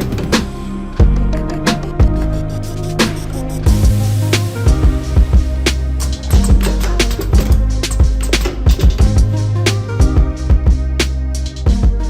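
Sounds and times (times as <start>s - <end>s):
drum kit beat: 0.0s - 12.0s
sustained bass notes: 0.0s - 12.0s.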